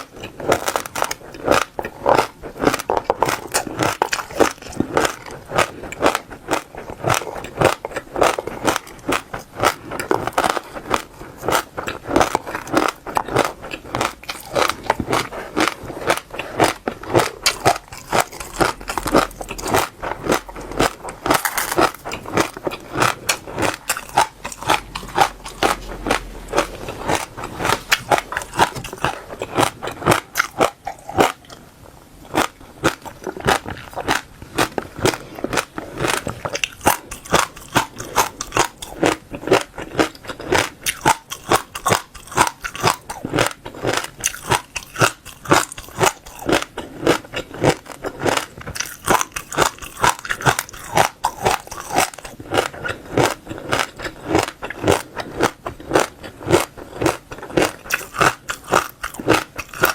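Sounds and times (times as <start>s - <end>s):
chewing crunchy seeds: 0.0s - 59.9s.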